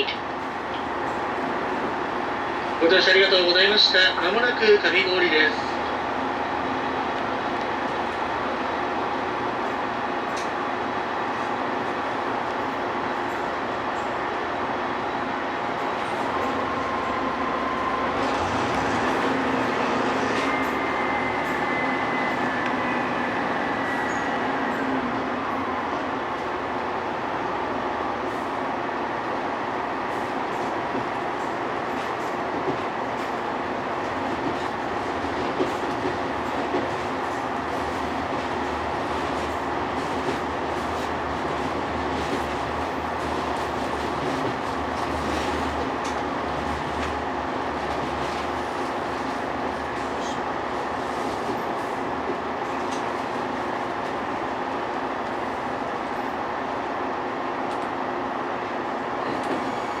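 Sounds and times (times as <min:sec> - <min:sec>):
railcar running rumble: 0:00.0 - 1:00.0.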